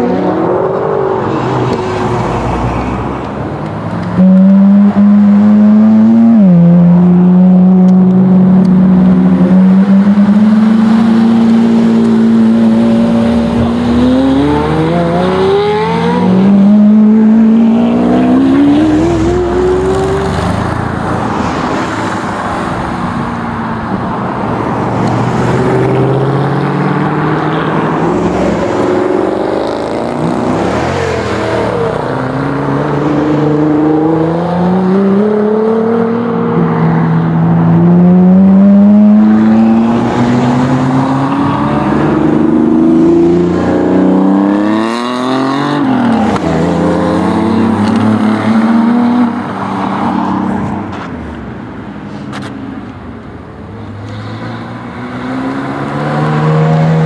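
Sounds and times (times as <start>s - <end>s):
car engines accelerating: 0.0s - 57.0s.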